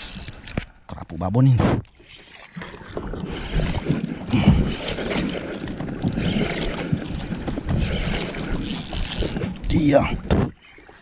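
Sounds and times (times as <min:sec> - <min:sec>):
water sloshing against boat hull: 0:00.3 - 0:11.0.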